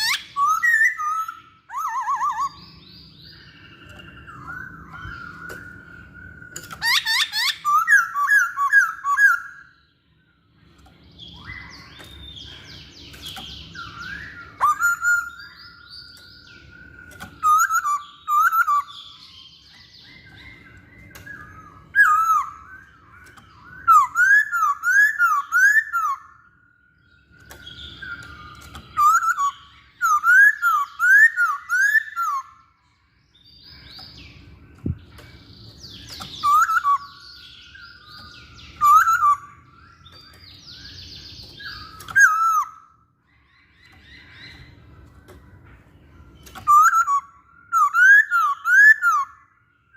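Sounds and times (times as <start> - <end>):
bird whistling song: 0.0 - 49.9.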